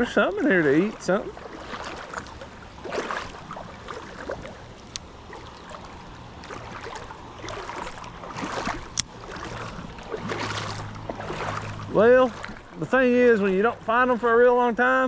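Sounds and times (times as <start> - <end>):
creek water running: 0.0 - 15.0.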